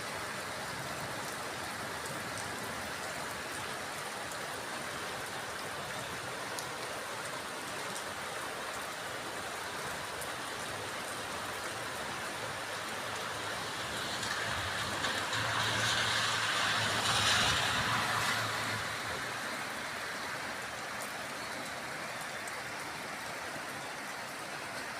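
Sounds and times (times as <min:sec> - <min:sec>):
heavy rain: 0:00.0 - 0:24.9
tyres hissing on wet road: 0:00.0 - 0:24.9.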